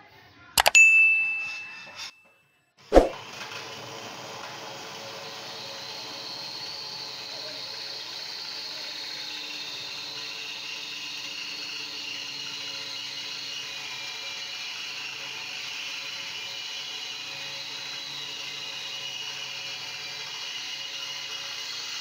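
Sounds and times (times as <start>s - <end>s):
power tool whirring on metal: 3.4s - 22.0s.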